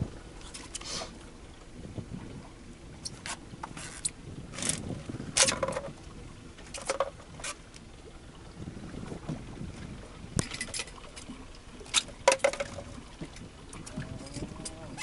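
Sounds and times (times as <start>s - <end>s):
low rumble of wind and sea: 0.0s - 15.0s
water splashing against boat hull: 0.0s - 15.0s.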